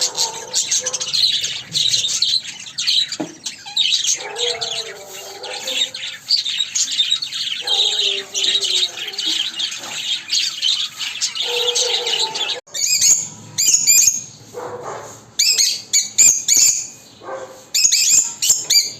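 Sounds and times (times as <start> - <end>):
birds chattering and chirping: 0.0 - 18.9
shrill bird chirps: 0.0 - 18.9.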